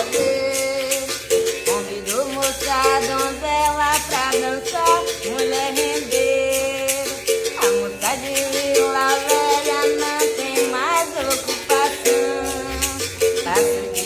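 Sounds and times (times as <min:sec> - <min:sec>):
berimbau music: 0:00.0 - 0:14.0
person singing: 0:00.0 - 0:14.0
shaker rattling: 0:00.0 - 0:14.0.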